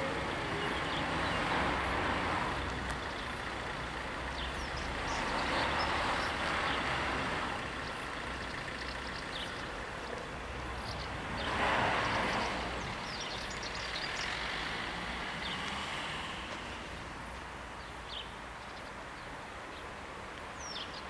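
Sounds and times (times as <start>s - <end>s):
road vehicles passing: 0.0s - 21.0s.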